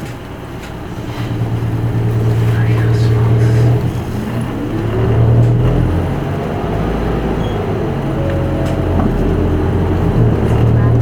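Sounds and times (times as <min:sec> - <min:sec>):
bus diesel engine hum: 0:00.0 - 0:11.0.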